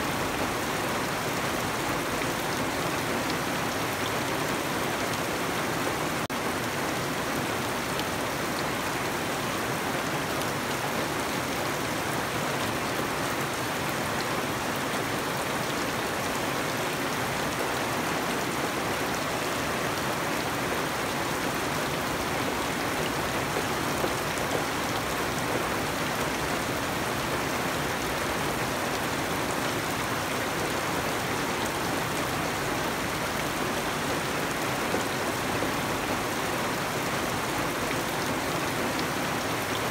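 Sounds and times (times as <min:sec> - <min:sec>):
rain on plants and ground: 0:00.0 - 0:39.9.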